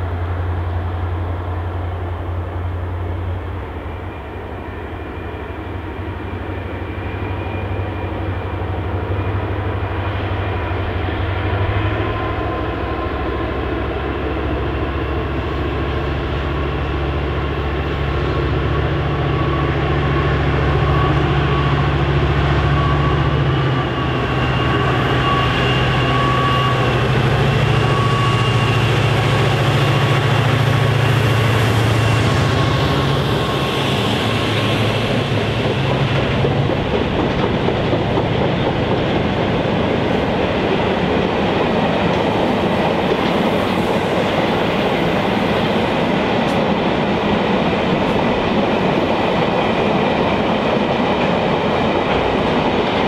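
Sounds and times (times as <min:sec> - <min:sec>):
locomotive engine drone: 0:00.0 - 0:53.0.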